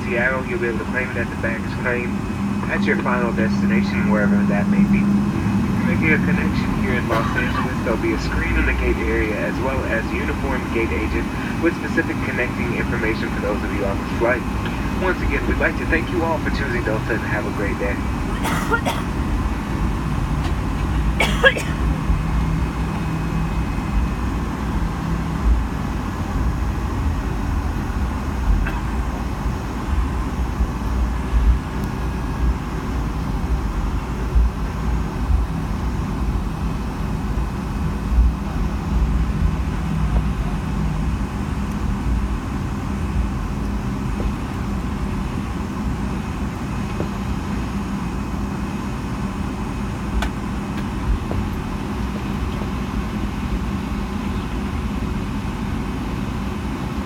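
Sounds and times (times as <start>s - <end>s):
jet engines idling: 0.0s - 57.0s
low hum: 0.0s - 57.0s.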